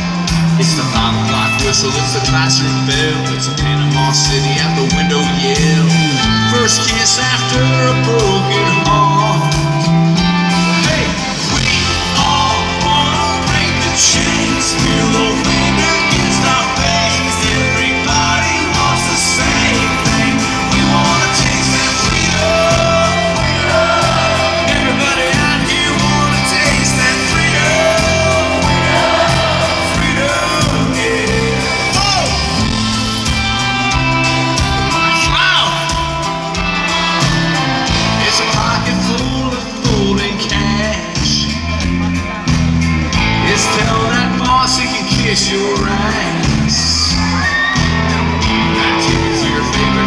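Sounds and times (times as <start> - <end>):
man singing lead: 0.0 - 42.5, 43.1 - 50.0
country-rock band playing: 0.0 - 50.0.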